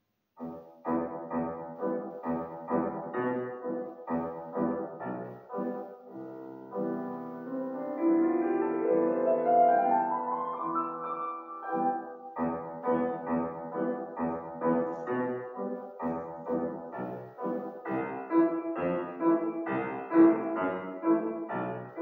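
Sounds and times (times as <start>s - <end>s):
grand piano playing classical music: 0.4s - 22.0s.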